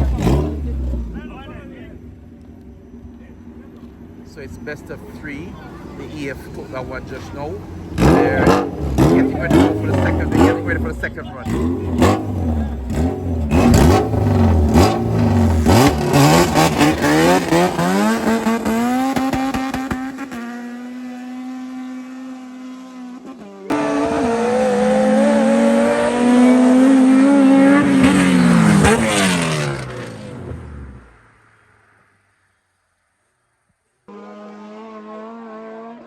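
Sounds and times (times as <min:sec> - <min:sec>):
engine at high revs: 0:00.0 - 0:01.2, 0:04.4 - 0:31.2, 0:34.1 - 0:36.0
drag cars accelerating hard: 0:00.0 - 0:01.4, 0:03.4 - 0:31.6, 0:34.0 - 0:36.0.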